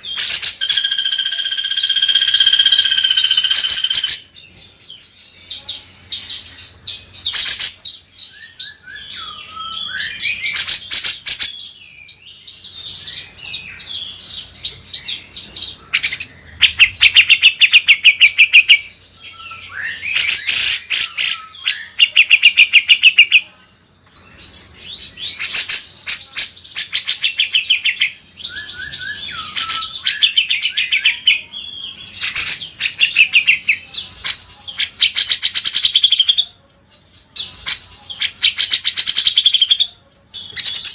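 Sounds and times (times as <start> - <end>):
songbirds singing chattering trills: 0.0 - 40.9.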